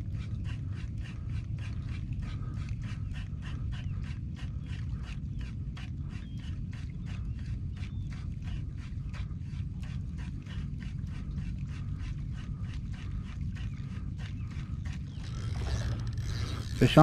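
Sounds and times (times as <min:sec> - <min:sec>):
soft paddle strokes: 0:00.0 - 0:17.0
wind and water rumble: 0:00.0 - 0:17.0.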